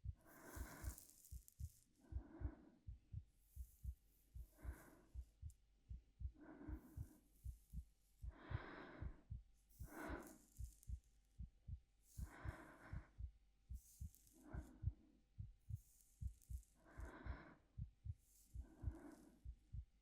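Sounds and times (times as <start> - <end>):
slow heartbeat thumps: 0.0 - 20.0
woman breathing quietly: 0.0 - 20.0.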